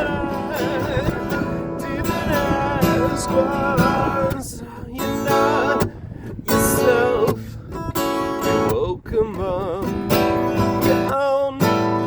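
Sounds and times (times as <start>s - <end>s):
acoustic guitar strumming: 0.0s - 12.0s
person singing with vibrato: 0.0s - 12.0s.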